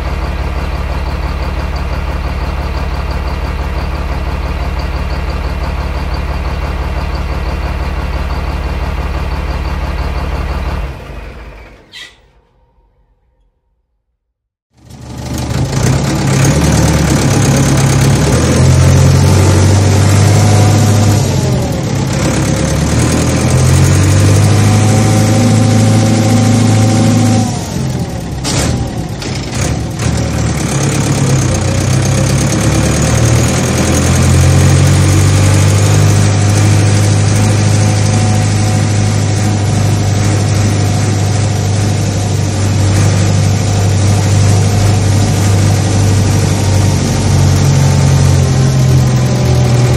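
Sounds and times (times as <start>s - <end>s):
heavy engine droning: 0.0s - 14.0s, 14.7s - 49.9s.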